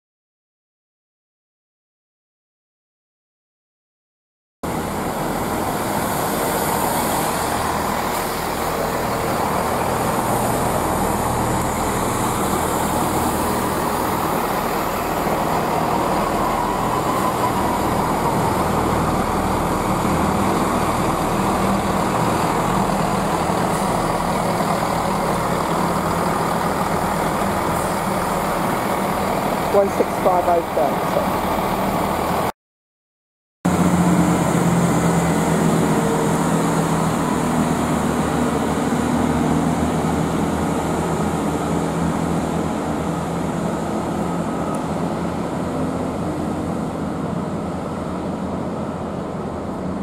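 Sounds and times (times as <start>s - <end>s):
train diesel engines running: 4.6s - 32.5s, 33.7s - 50.0s.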